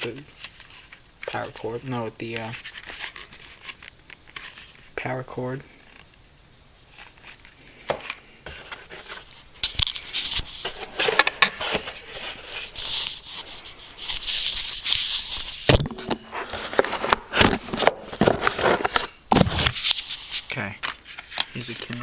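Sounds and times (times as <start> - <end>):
packaging rustling and scraping: 0.0 - 5.0, 6.9 - 22.0.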